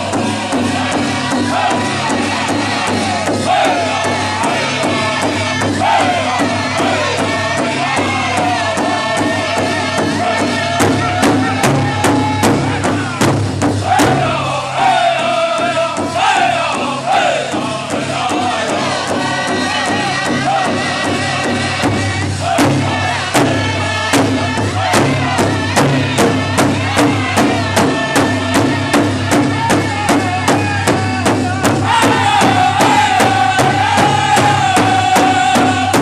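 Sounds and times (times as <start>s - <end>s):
big drum beating: 0.0s - 36.0s
group singing in high voices: 0.0s - 36.0s.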